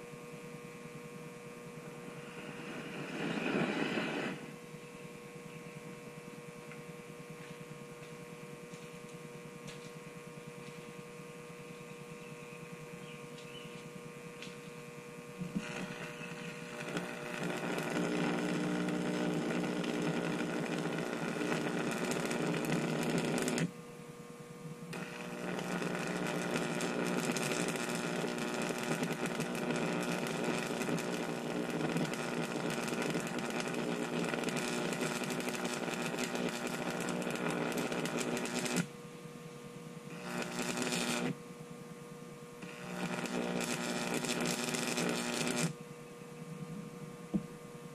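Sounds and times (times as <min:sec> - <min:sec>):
electric arc buzzing and crackling: 0:00.0 - 0:23.8, 0:24.8 - 0:45.8.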